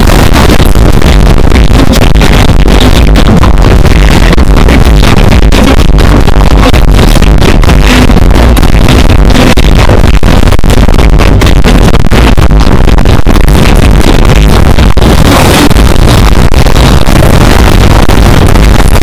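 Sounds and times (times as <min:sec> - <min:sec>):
distorted music over loudspeakers: 0:00.0 - 0:19.0.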